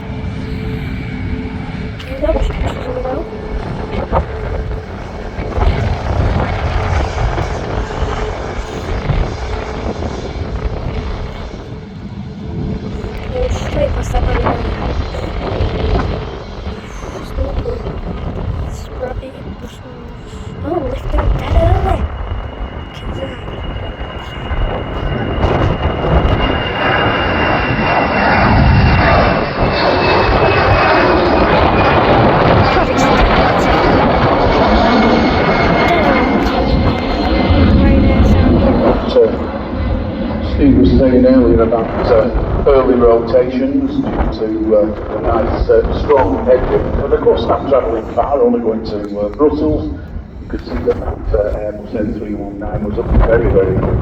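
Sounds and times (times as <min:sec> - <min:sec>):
jet engine rumble: 0:00.0 - 0:54.0
wind buffeting microphone: 0:00.0 - 0:54.0.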